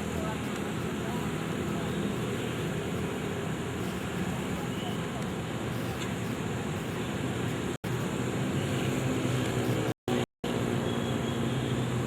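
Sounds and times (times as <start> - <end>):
rumbling outdoor noise: 0.0 - 12.0.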